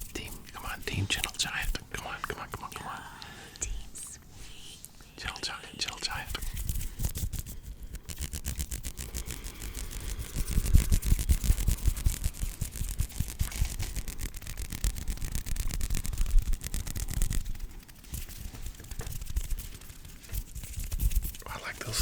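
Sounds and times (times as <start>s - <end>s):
hands rubbing against microphone: 0.0s - 22.0s.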